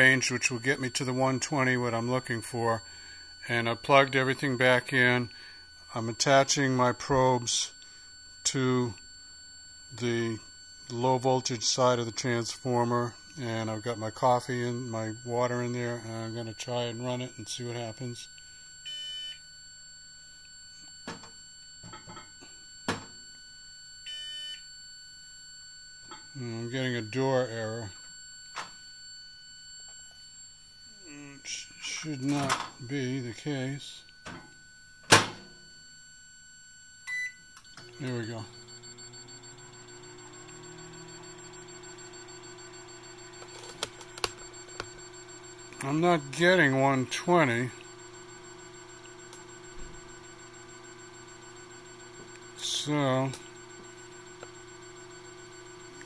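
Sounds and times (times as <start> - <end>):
microwave beeping: 0.0 - 56.0.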